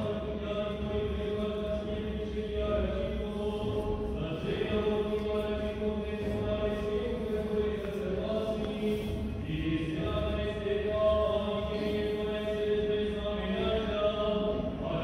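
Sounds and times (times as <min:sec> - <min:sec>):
low vocal drone: 0:00.0 - 0:15.0.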